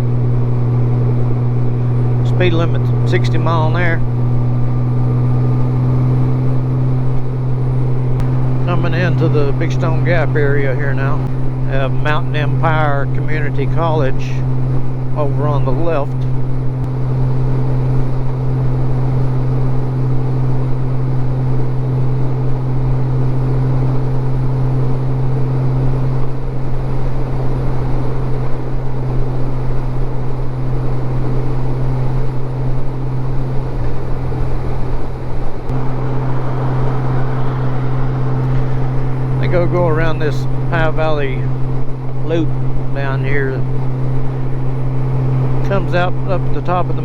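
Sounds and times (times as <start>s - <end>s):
motorcycle engine droning: 0.0s - 47.0s.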